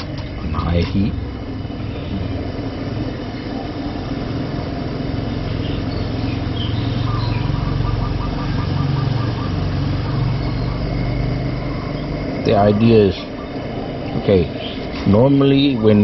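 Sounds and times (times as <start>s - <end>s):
low rumble: 0.0s - 15.9s.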